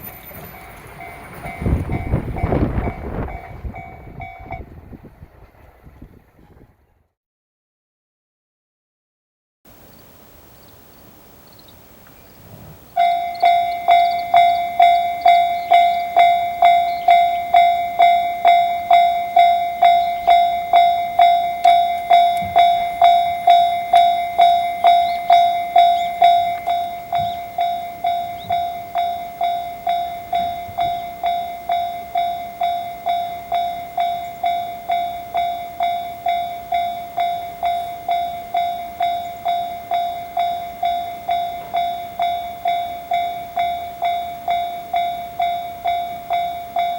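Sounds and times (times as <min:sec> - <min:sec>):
level-crossing warning bell: 0:00.0 - 0:05.1, 0:12.9 - 0:46.9.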